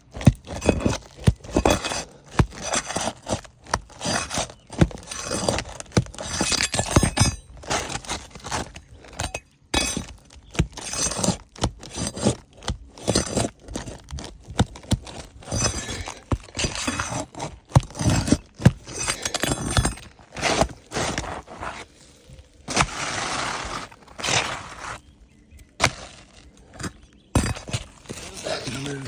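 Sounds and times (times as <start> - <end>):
shingles cracking and scraping: 0.0 - 29.0.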